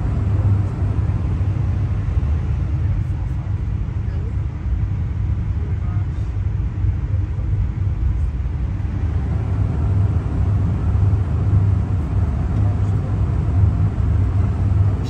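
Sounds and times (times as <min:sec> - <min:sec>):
train rumbling on rails: 0:00.0 - 0:05.0, 0:06.4 - 0:15.0.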